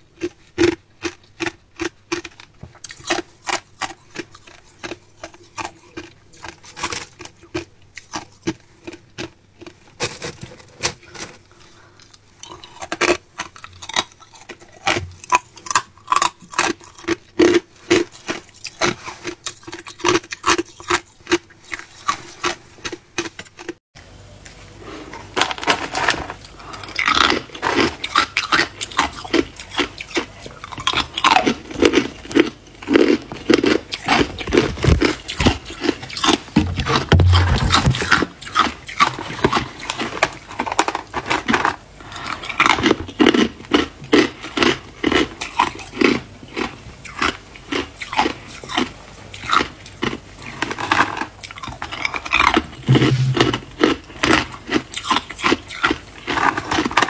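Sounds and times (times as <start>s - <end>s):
ice being chewed: 0.0s - 23.8s, 25.1s - 57.0s.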